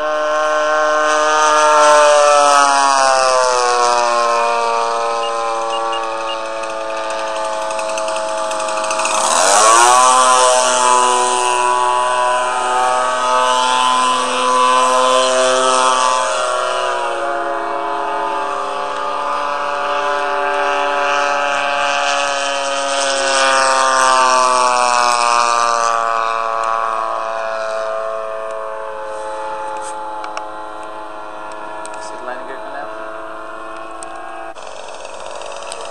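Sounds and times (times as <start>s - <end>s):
model plane engine: 0.0s - 35.9s.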